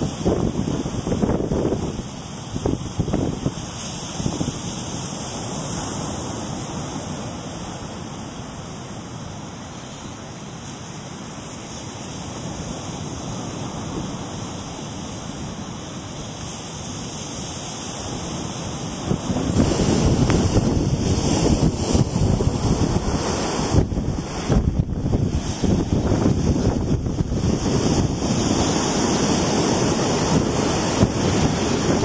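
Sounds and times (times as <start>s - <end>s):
ocean surf washing on beach: 0.0s - 32.0s
wind noise on microphone: 0.0s - 32.0s.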